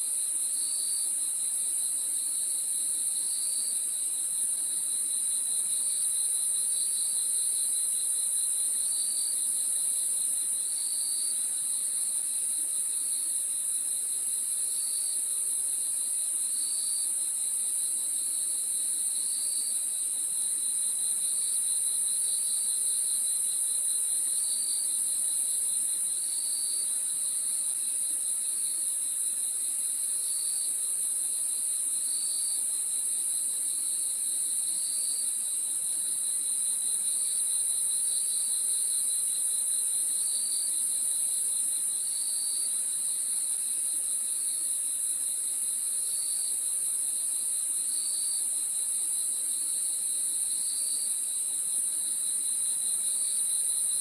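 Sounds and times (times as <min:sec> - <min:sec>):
pulsing cricket chirps: 0:00.0 - 0:54.0.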